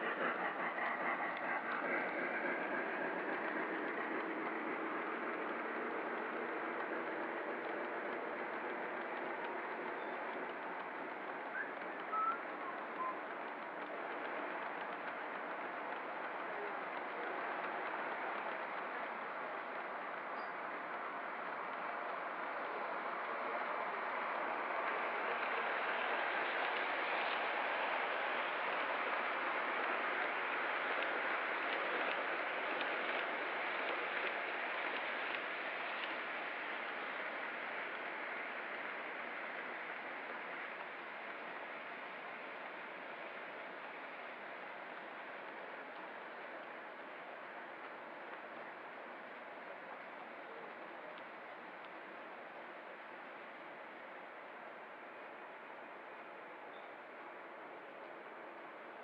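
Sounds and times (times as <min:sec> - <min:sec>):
model train wheels rumbling on rail: 0:00.0 - 0:59.0.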